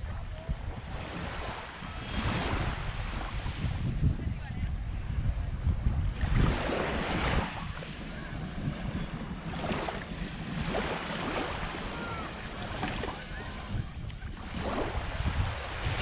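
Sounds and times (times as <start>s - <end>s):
small waves lapping on shore: 0.0s - 4.0s, 5.9s - 16.0s
wind on microphone: 0.0s - 16.0s.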